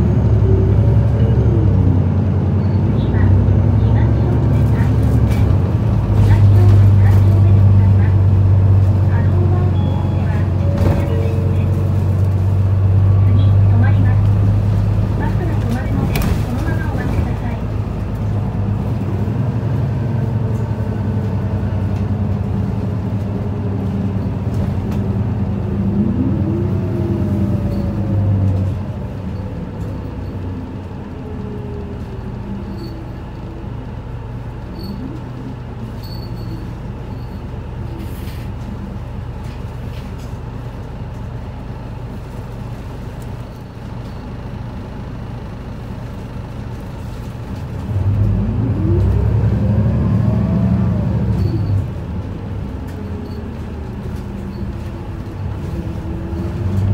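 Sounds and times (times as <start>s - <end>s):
bus diesel engine drone and whine: 0.0s - 56.9s.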